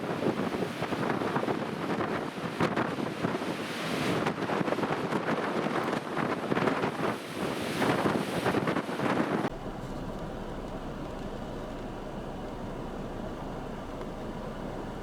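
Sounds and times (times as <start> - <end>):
pounding surf: 0.0 - 15.0
wind buffeting microphone: 0.0 - 15.0.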